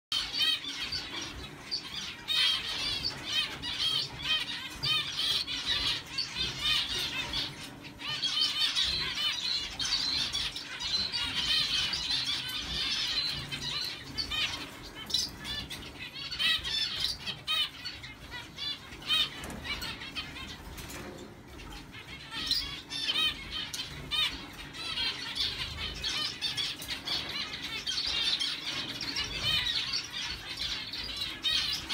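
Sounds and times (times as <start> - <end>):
finches chirping: 0.1 - 31.9.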